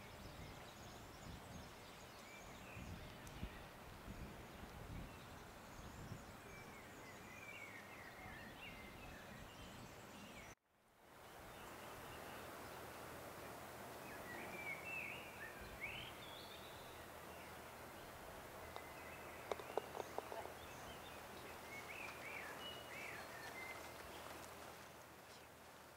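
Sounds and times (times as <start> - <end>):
outdoor background hiss: 0.0 - 25.9
songbirds chirping: 0.0 - 25.9.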